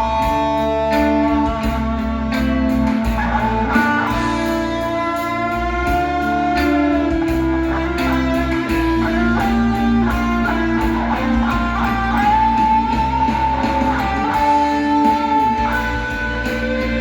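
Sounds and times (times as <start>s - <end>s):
electric guitar lead melody: 0.0s - 17.0s
sustained bass line: 0.0s - 17.0s.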